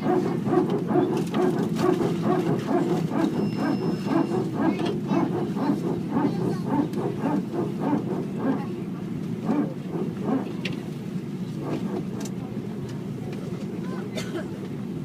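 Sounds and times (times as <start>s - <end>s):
aircraft hydraulic pump barking: 0.0s - 12.4s.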